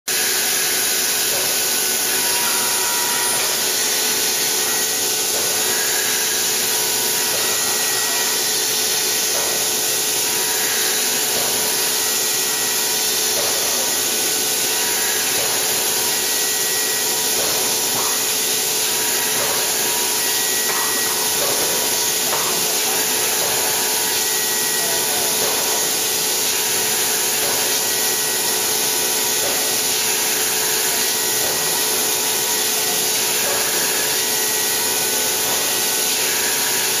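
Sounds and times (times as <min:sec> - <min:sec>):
milling machine cutting whine: 0:00.1 - 0:37.0.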